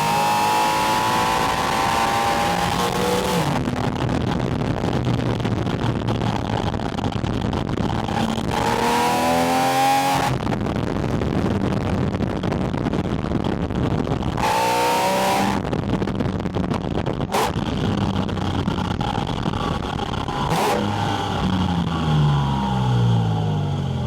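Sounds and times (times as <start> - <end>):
car engine accelerating: 0.0 - 16.5, 17.1 - 24.0
wind and road rush: 0.0 - 24.0.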